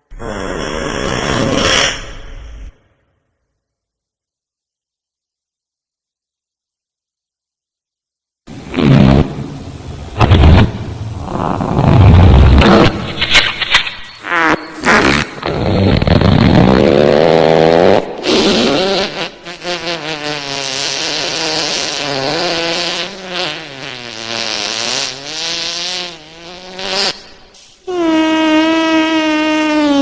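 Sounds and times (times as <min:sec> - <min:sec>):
wet fart sound effects: 0:00.1 - 0:02.7, 0:08.5 - 0:30.0.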